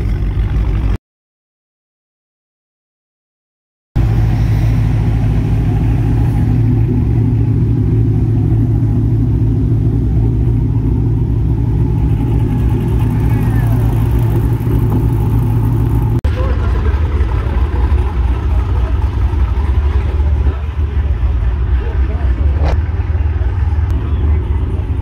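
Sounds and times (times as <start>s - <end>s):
car engine idling: 0.0s - 1.0s, 4.0s - 25.0s.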